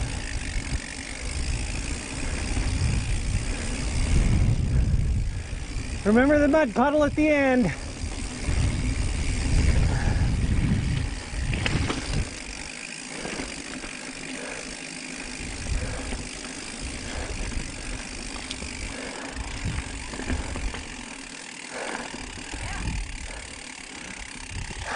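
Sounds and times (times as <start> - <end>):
wind rumbling on microphone: 0.0 - 13.3, 15.3 - 21.0, 22.2 - 23.5, 24.2 - 24.9
bike tyres on dirt: 0.0 - 24.9.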